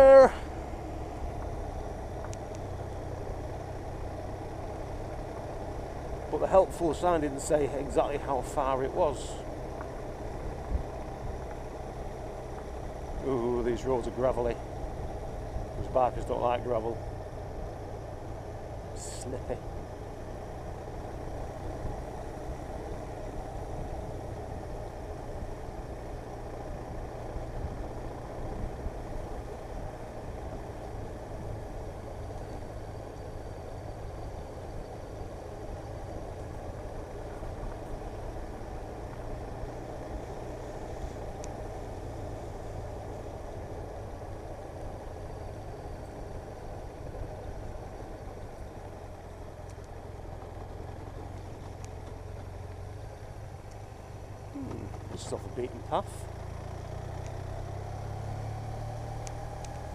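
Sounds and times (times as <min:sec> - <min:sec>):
motorcycle engine drone: 0:00.0 - 0:59.9
road noise on gravel: 0:00.0 - 0:59.9.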